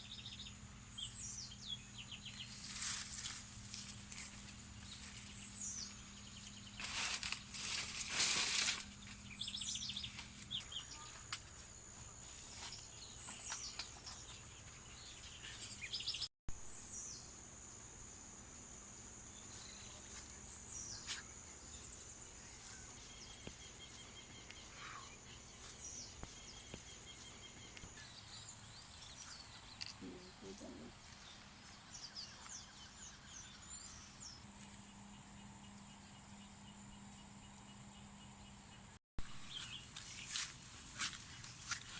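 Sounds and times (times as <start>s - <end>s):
birds chirping: 0.0s - 16.3s, 19.3s - 41.9s.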